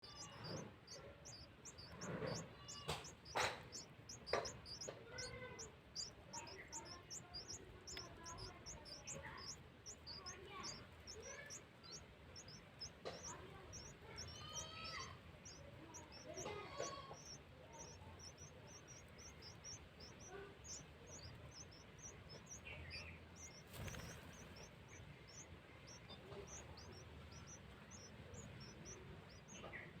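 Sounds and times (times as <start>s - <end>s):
nestlings chirping: 0.0s - 30.0s.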